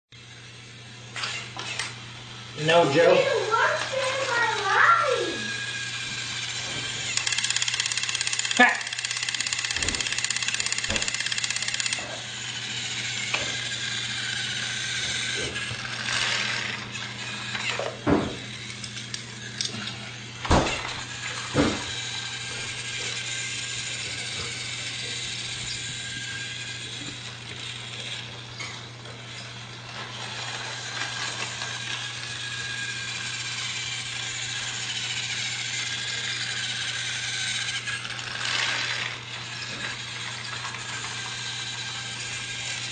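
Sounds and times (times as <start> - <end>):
toy train motor humming: 0.2 - 42.9.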